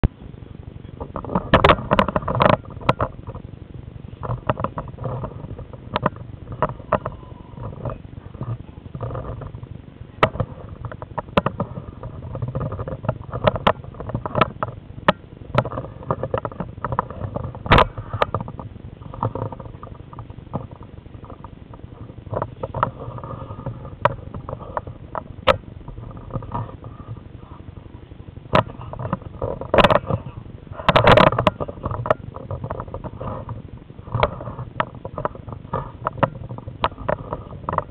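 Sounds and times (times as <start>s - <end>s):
camera handling rumble: 0.9s - 3.5s, 4.1s - 37.9s
irregular clicks and knocks: 0.9s - 3.5s, 4.2s - 37.9s.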